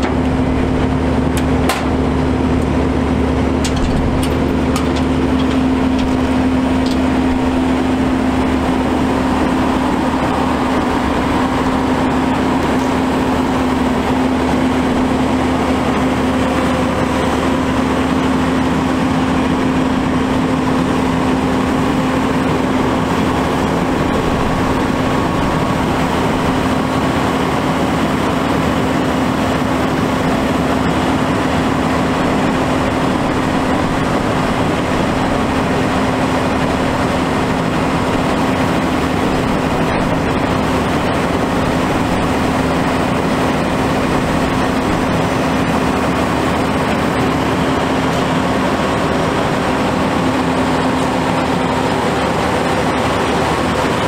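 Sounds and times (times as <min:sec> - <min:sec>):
diesel truck engine humming: 0:00.0 - 0:54.0.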